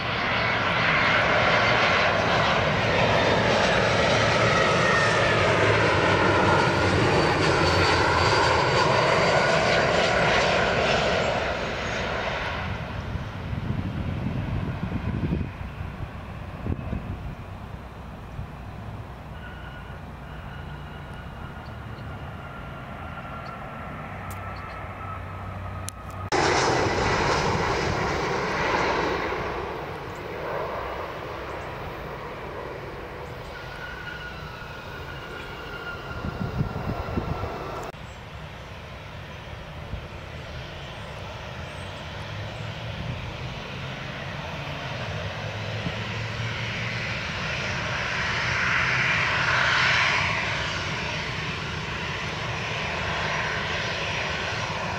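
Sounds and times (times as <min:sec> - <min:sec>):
jet airliner engines: 0:00.0 - 0:54.9
jet engines whining: 0:00.0 - 0:54.9.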